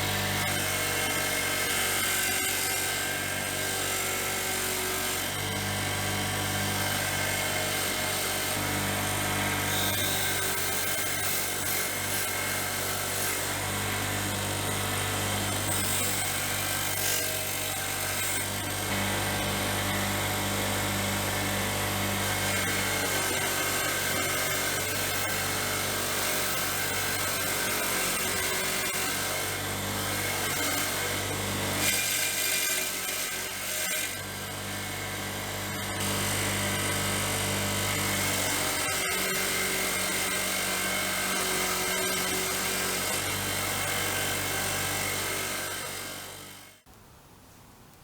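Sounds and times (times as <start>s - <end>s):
handheld power tool whirring: 0.0s - 46.9s.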